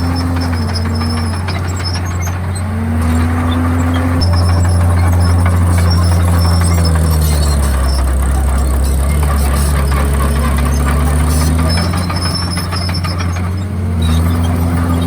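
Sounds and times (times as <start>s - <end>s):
bulldozer diesel engine under load: 0.0s - 15.0s
track clatter and squeal: 0.0s - 15.0s.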